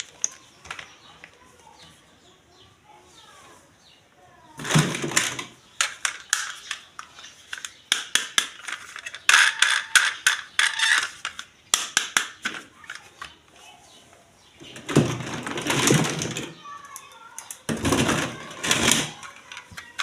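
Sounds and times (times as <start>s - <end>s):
plastic toys and packaging handled: 0.0s - 3.8s, 4.4s - 20.0s.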